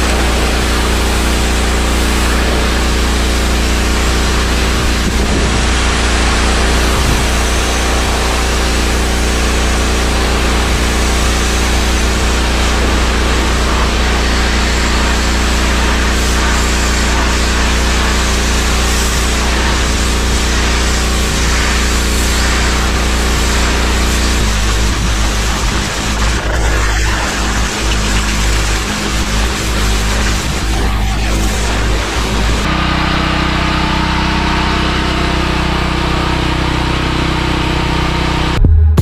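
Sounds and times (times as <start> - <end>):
water jet spraying metal siding: 0.0 - 38.2
pressure washer motor humming: 0.0 - 39.0.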